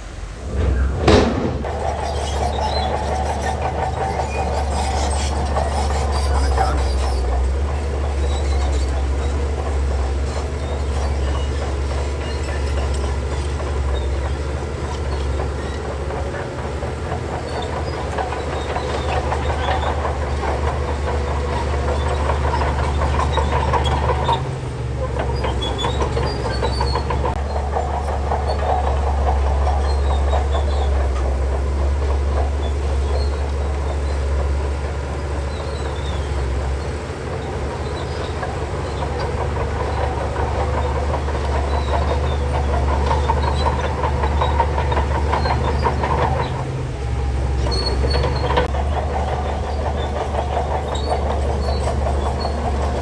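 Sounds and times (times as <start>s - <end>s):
bulldozer diesel engine running: 0.0s - 53.0s
steel tracks clanking: 0.0s - 53.0s.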